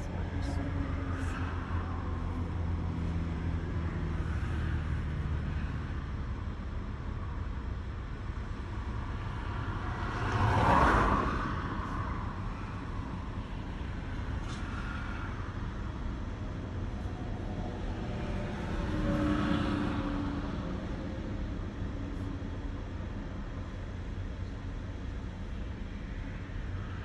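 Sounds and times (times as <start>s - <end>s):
passing vehicle: 0.0s - 27.0s
vehicle engine hum from inside cab: 0.0s - 27.0s.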